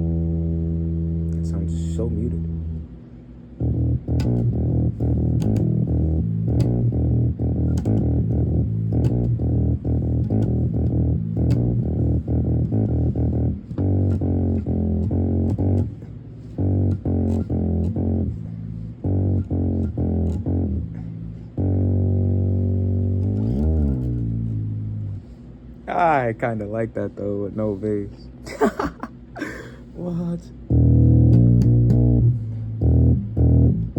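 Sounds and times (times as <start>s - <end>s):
muted electric guitar picking: 0.0s - 25.4s, 30.6s - 33.9s.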